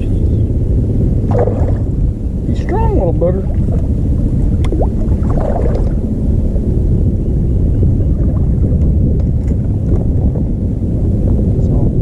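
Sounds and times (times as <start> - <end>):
boat and water noise: 0.0 - 12.0
wind on microphone: 0.0 - 12.0.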